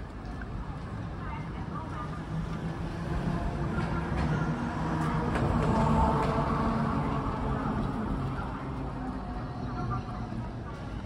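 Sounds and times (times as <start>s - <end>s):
car engines and tyres rumbling: 0.0s - 11.0s
road traffic passing: 0.1s - 11.0s.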